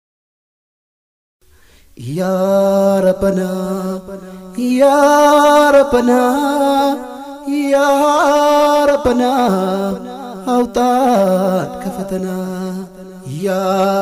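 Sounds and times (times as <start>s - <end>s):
wordless chanted vocal notes: 2.0s - 14.0s.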